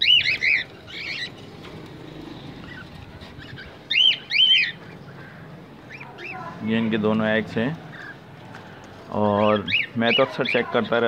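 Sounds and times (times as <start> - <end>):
cage birds chirping: 0.0 - 11.0.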